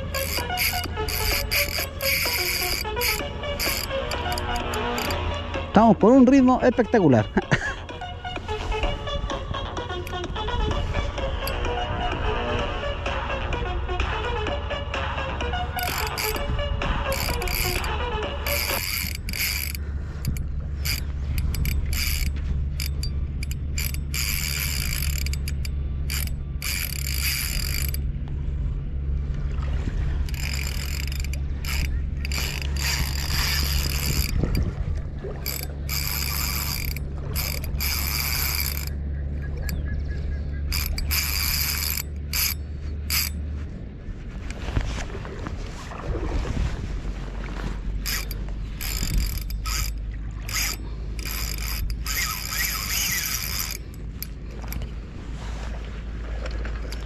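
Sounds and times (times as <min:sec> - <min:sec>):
fishing reel gears whirring: 0:00.0 - 0:06.5, 0:07.9 - 0:12.8, 0:15.4 - 0:43.4, 0:47.9 - 0:55.2, 0:56.7 - 0:57.0.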